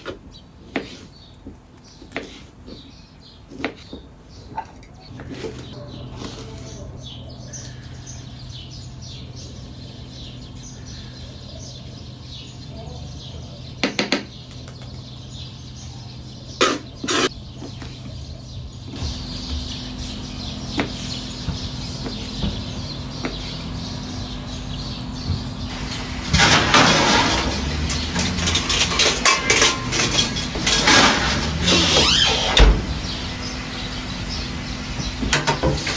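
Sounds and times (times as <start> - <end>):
steady low hum: 5.0 - 35.9.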